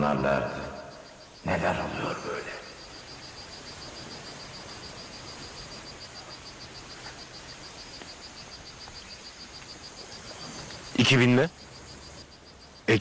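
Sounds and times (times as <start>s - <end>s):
background hiss: 0.0s - 13.0s
pulsing insect chirp: 0.0s - 13.0s.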